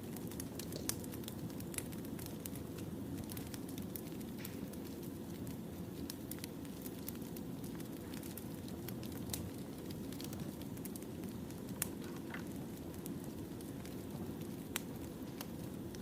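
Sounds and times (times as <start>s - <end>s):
fire crackles and pops: 0.0s - 16.0s
wood fire rumble: 0.0s - 16.0s.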